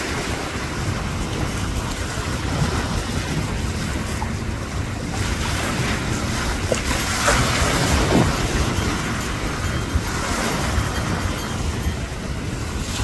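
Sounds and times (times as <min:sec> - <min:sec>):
choppy waves: 0:00.0 - 0:13.0
wind buffeting microphone: 0:00.0 - 0:13.0.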